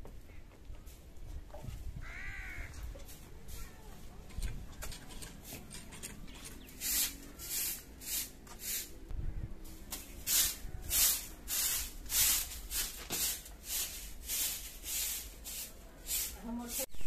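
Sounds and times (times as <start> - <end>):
broom sweeping earth: 0.8 - 4.2, 6.3 - 17.0.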